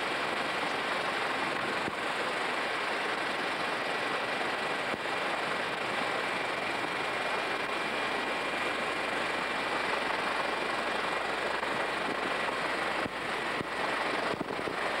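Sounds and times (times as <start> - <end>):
aircraft engine noise in cabin: 0.0 - 15.0.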